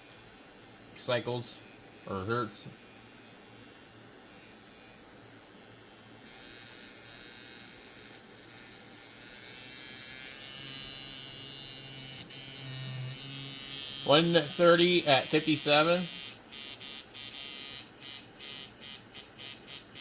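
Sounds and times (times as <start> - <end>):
tattoo machine buzzing: 0.0 - 20.0.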